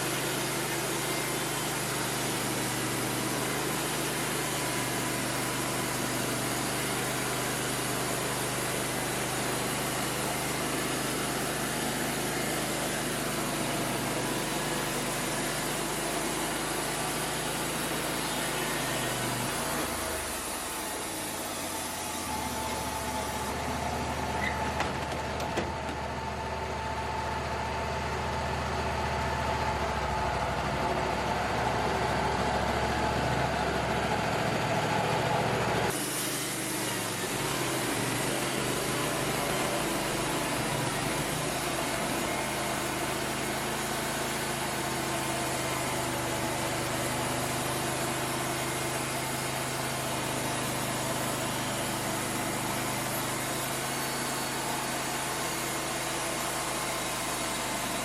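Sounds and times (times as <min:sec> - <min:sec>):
portable sawmill running: 0:00.0 - 0:58.0.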